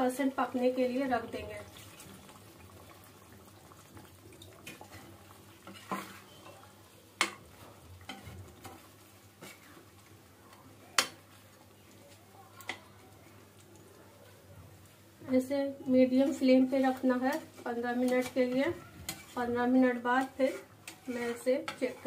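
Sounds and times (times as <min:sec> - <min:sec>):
gravy sizzling: 0:00.0 - 0:22.0
ladle stirring gravy: 0:00.8 - 0:15.0, 0:16.1 - 0:22.0.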